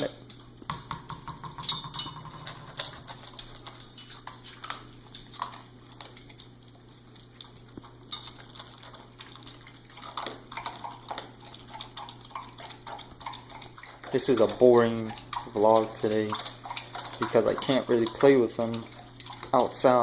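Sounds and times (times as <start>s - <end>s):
dog claws clicking and tapping: 0.0s - 20.0s.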